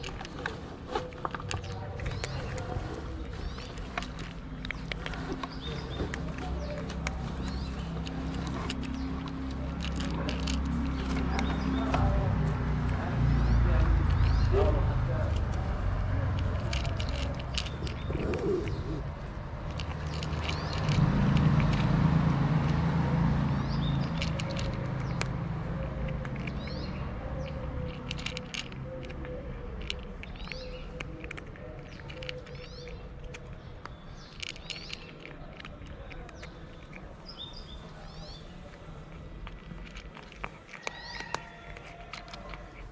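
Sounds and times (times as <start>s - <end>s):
cat crunching dry kibble: 0.0s - 42.9s
low traffic rumble: 0.0s - 42.9s
small birds chirping: 0.0s - 42.9s.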